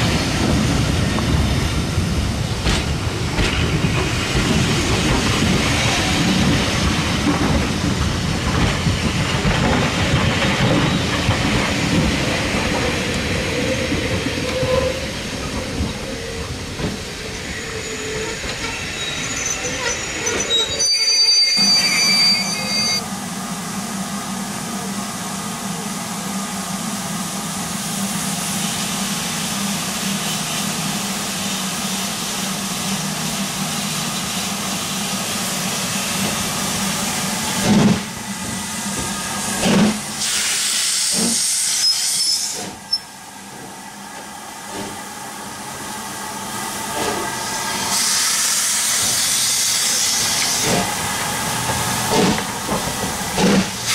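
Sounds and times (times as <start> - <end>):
railway coaches rolling by: 0.0 - 53.9
steam locomotive blowing steam: 0.0 - 53.9.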